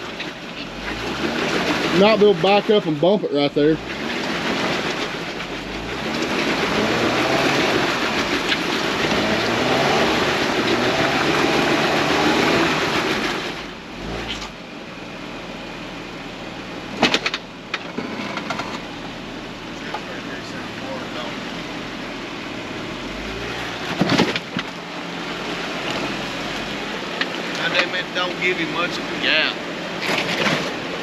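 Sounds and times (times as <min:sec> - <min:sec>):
engine revving under load: 0:00.0 - 0:14.7, 0:19.8 - 0:31.0
tires on rough ground: 0:00.0 - 0:31.0.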